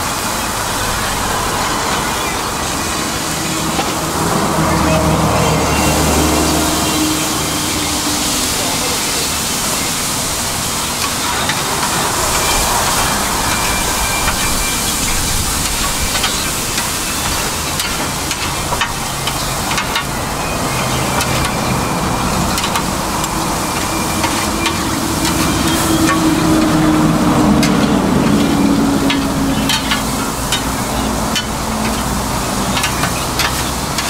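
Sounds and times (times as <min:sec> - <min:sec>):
food sizzling on a griddle: 0:00.1 - 0:34.0.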